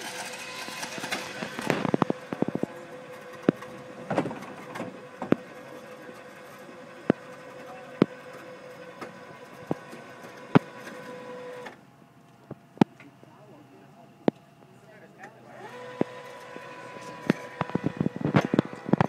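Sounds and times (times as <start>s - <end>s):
electric hoist motor whine: 0.0s - 11.8s, 15.4s - 19.0s.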